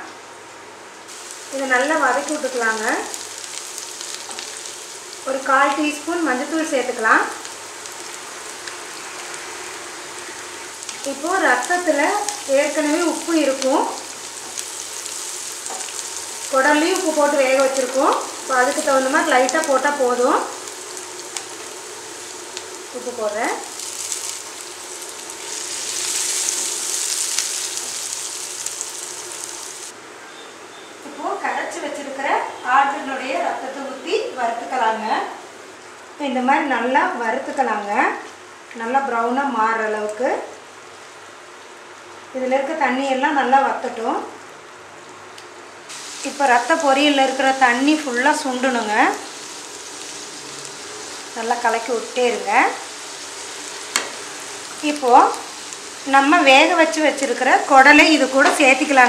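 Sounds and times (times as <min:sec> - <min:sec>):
vegetables sizzling in hot oil: 0:00.8 - 0:59.0.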